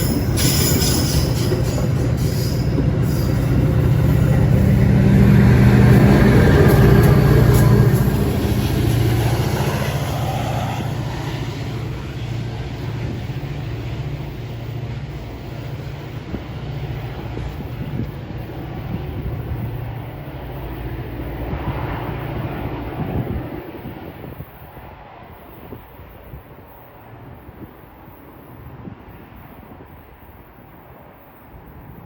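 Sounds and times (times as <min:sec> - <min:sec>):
diesel locomotive passing: 0:00.0 - 0:32.0.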